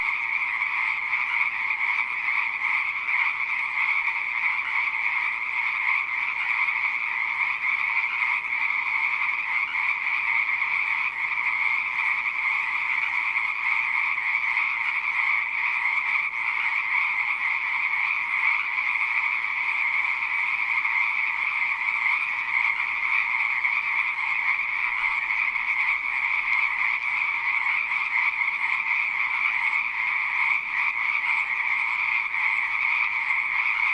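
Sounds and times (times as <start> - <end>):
frogs croaking chorus: 0.0 - 33.9.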